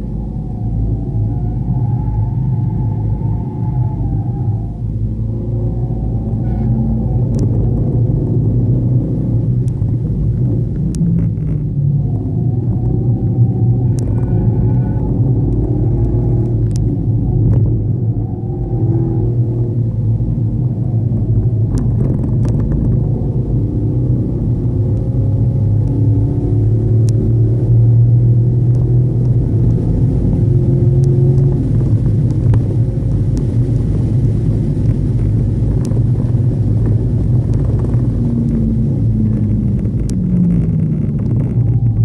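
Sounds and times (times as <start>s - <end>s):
road and tyre noise: 0.0s - 42.0s
car engine running: 4.1s - 42.0s.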